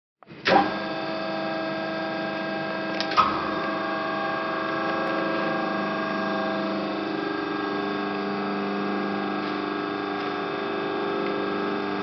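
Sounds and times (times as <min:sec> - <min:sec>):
hydraulic press machine hum: 0:00.2 - 0:12.0.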